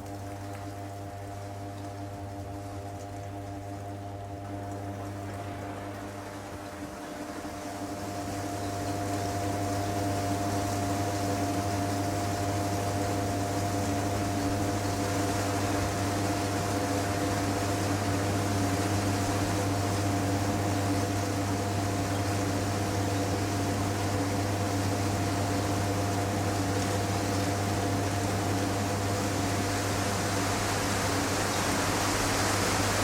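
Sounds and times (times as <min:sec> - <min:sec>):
machine hum with hiss: 0:00.0 - 0:33.0.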